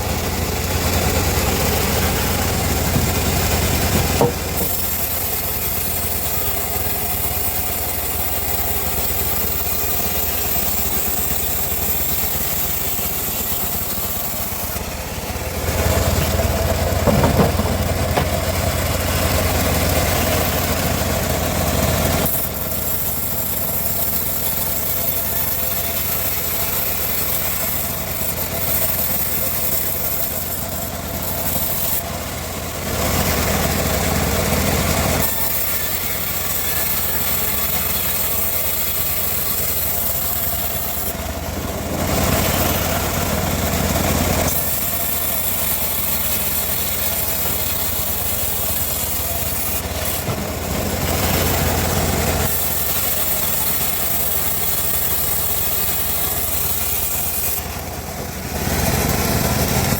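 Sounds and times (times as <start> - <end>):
bandsaw mill running: 0.0 - 59.9
blade sawing through wood: 0.0 - 59.9.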